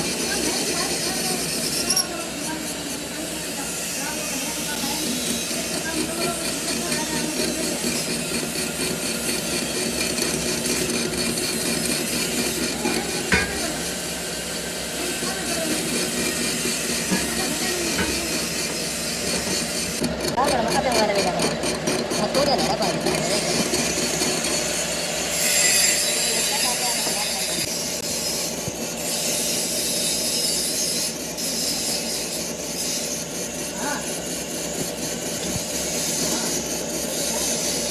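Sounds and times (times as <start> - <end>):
metalworking machinery grinding: 0.0 - 37.9.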